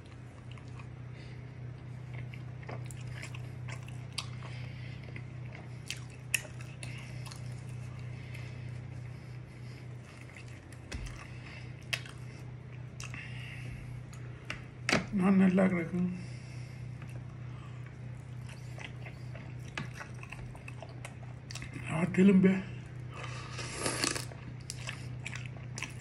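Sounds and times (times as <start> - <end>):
man chewing bread: 0.0 - 14.8, 16.4 - 21.8, 22.8 - 26.0
low hum: 0.0 - 26.0.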